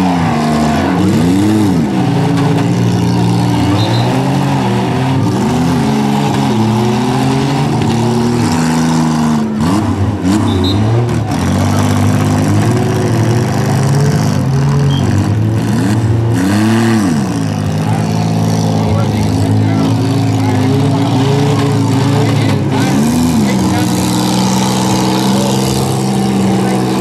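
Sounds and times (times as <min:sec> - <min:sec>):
minivan engines revving: 0:00.0 - 0:27.0.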